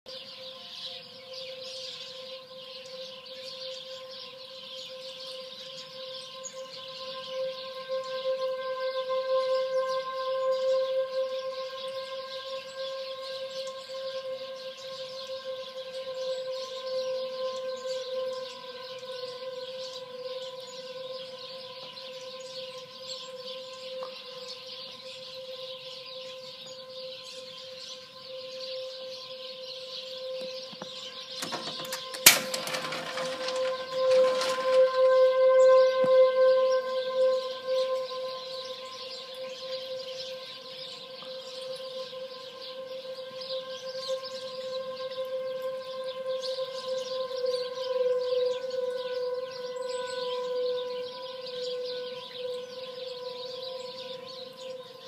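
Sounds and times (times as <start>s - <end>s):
birds chirping: 0.1s - 55.0s
distant warning sirens: 0.3s - 55.0s.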